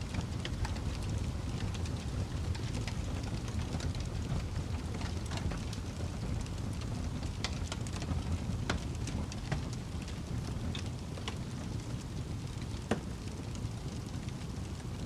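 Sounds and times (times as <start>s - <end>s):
fire crackles and pops: 0.0s - 15.0s
low roar of flames: 0.0s - 15.0s.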